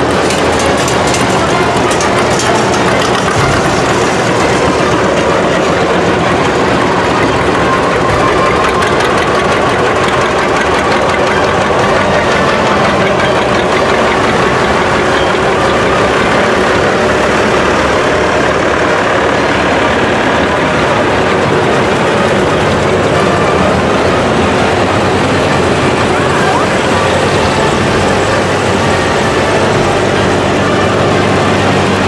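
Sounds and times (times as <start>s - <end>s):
tractor engines driving past: 0.0s - 32.0s.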